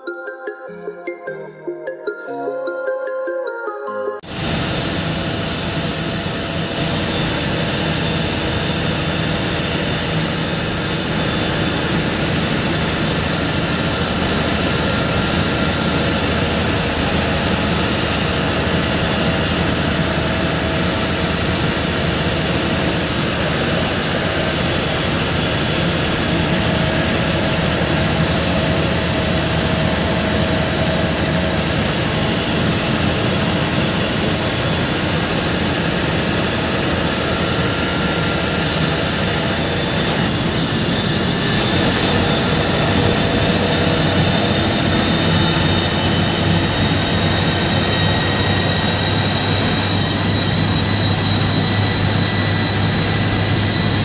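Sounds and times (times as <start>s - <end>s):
bus engine and tyre drone: 4.2s - 54.0s
thin high whine: 4.2s - 54.0s.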